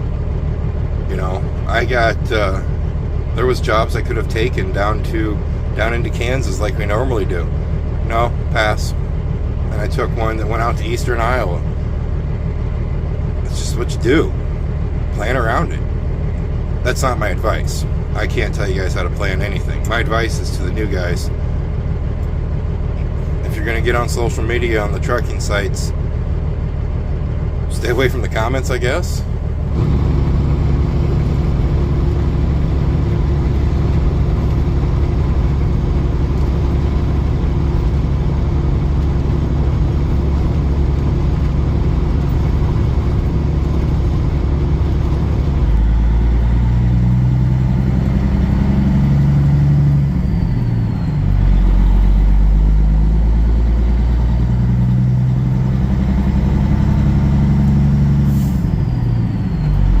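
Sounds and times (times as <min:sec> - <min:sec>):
road rumble: 0:00.0 - 1:00.0
truck diesel engine: 0:00.0 - 1:00.0.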